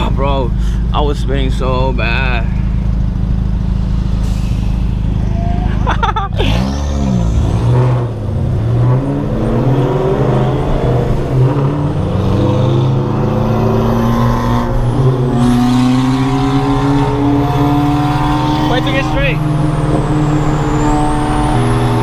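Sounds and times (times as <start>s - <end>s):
car engine accelerating: 0.0s - 22.0s
road and wind noise: 0.0s - 22.0s.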